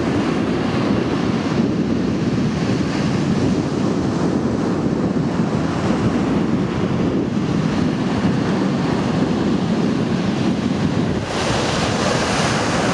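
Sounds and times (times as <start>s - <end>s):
surf breaking on beach: 0.0s - 12.9s
wind buffeting microphone: 0.0s - 12.9s.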